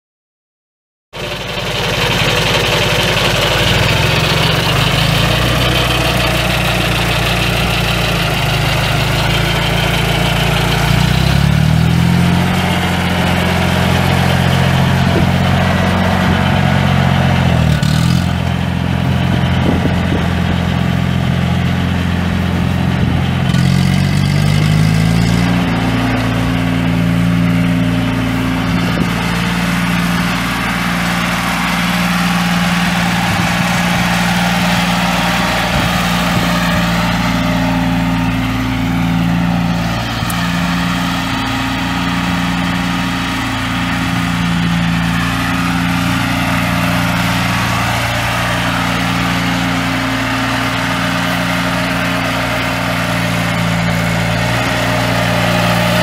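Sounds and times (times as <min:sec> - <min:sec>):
tractor engine revving: 0:01.2 - 0:56.0.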